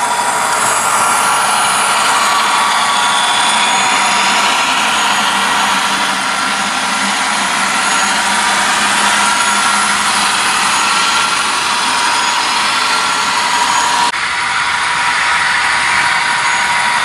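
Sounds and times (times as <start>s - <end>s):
model train drone: 0.0s - 17.0s.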